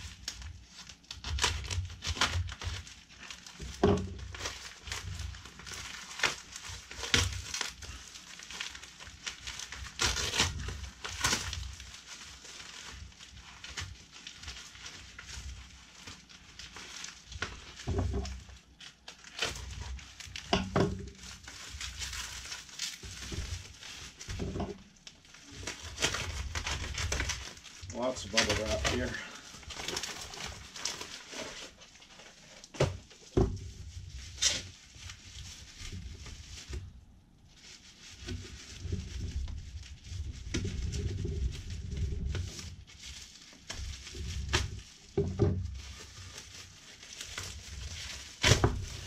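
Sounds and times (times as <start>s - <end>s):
plastic mailer crinkling: 0.0s - 49.0s
knife cutting plastic: 0.1s - 36.8s, 43.5s - 49.0s.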